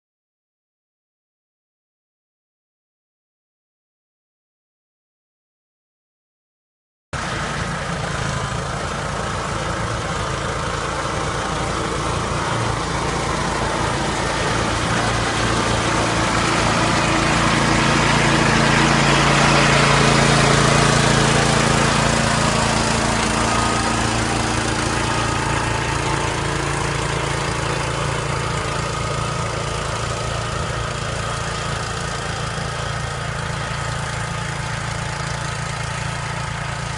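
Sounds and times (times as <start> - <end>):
farm machine running: 7.2 - 36.9.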